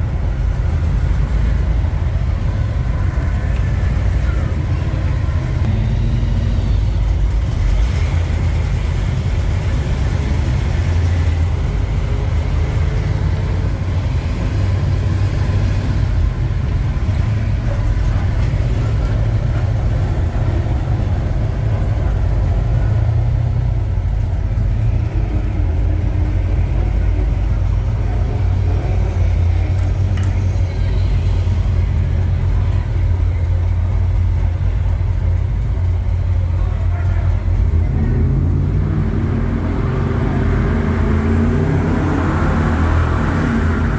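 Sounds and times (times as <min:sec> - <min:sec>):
bus engine rumbling: 0:00.0 - 0:43.9
road noise: 0:00.0 - 0:43.9.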